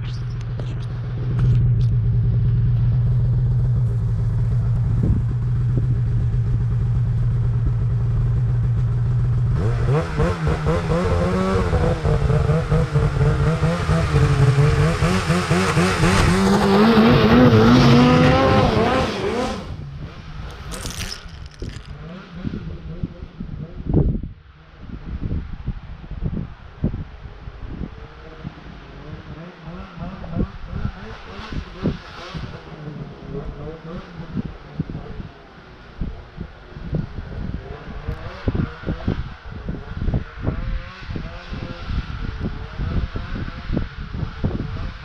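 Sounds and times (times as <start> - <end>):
snowmobile engine idling and revving: 0.0 - 45.0.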